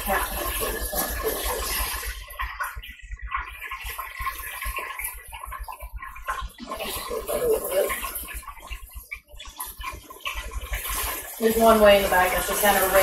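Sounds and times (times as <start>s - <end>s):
oil sizzling and crackling: 0.0s - 13.0s.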